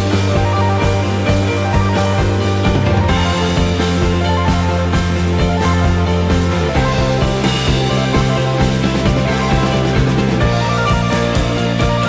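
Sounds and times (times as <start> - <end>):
upbeat rock music: 0.0 - 12.0.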